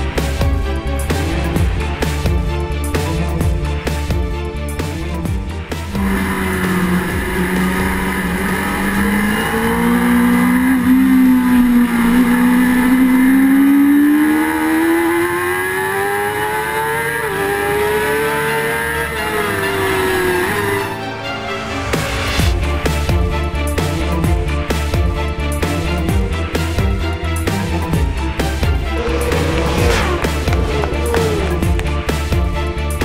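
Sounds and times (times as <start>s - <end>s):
racing motorcycle engine revving: 0.0s - 21.0s, 22.0s - 33.0s.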